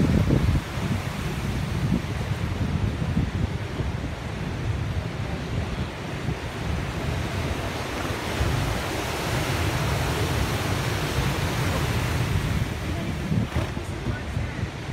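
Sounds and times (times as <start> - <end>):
wind rumbling on microphone: 0.0 - 14.9.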